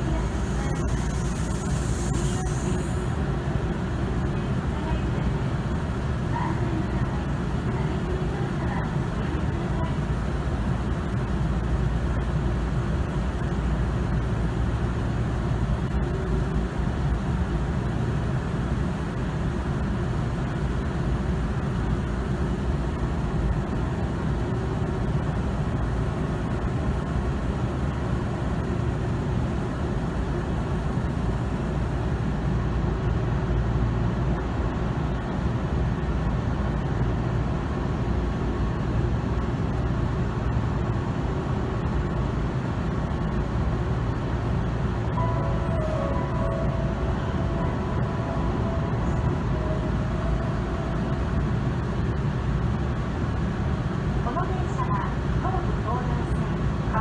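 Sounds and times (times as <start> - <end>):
train interior hum and rumble: 0.0 - 57.0.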